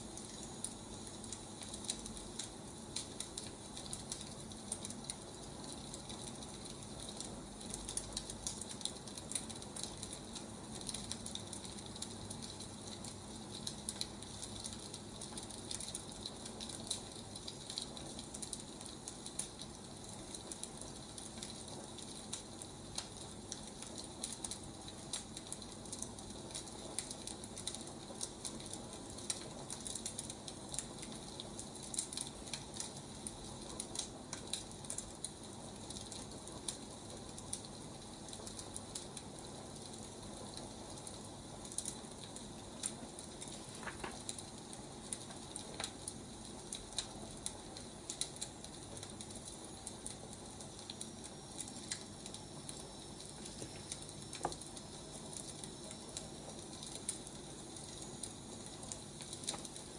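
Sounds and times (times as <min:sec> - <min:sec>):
fire pops and snaps: 0:00.0 - 0:59.9
firewood crackling: 0:00.0 - 0:59.9.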